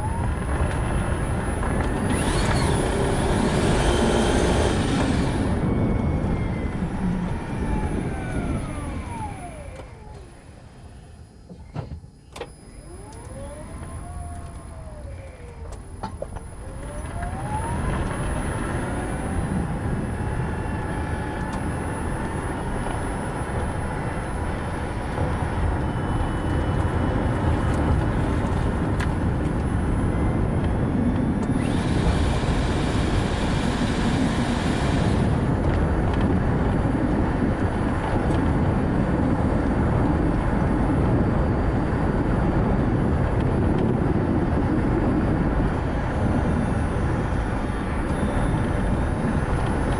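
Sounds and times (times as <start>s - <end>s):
car tyre and wind noise: 0.0s - 49.9s
thin whine: 0.0s - 49.9s.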